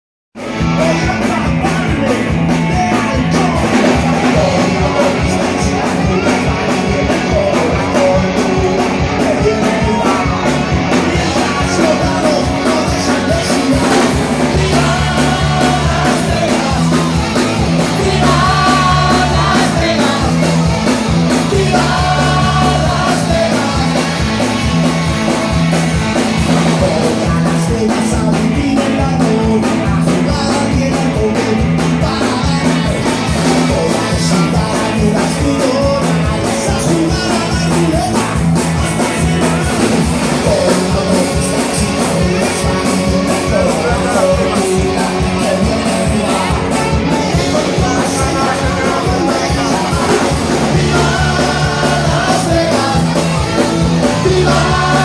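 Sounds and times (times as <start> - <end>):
live rock band playing: 0.4 - 55.0
person singing: 0.4 - 55.0.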